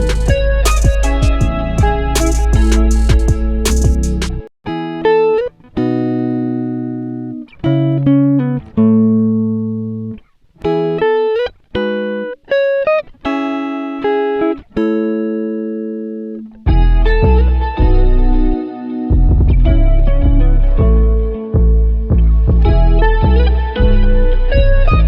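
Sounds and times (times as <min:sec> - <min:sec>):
plucked-string melody: 0:00.0 - 0:25.0.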